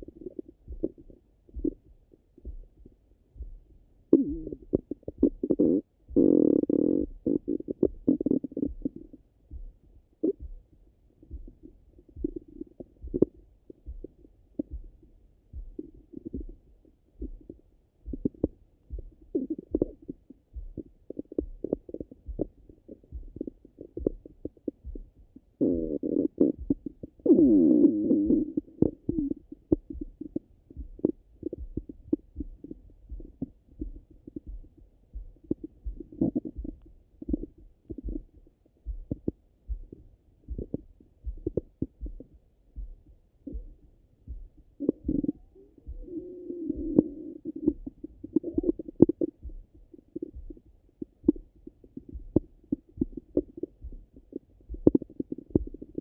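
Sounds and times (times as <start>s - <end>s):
stomach gurgling rumble: 0.0s - 3.0s, 4.1s - 9.3s, 10.2s - 10.6s, 11.2s - 42.3s, 43.4s - 56.0s.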